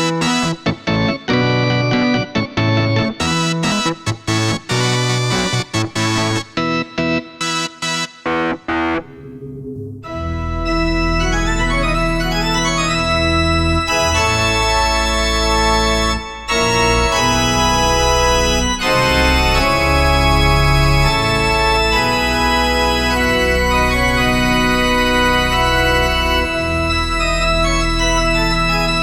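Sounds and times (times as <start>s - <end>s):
organ chords on keyboard: 0.0s - 29.0s.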